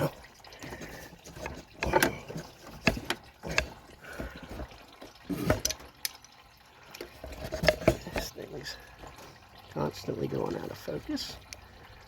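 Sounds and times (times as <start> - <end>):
coolant dripping into a pan: 0.0 - 12.0.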